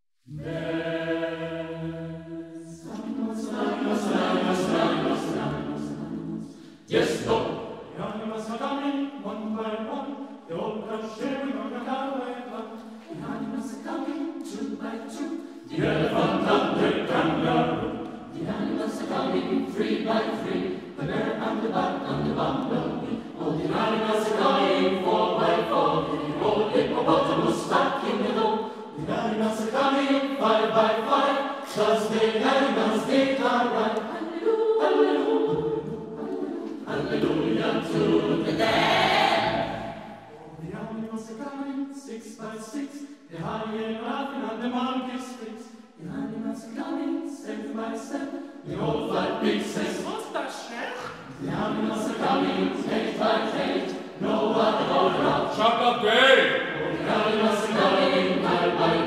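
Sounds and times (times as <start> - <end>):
mixed choir singing a cappella: 0.3 - 59.0.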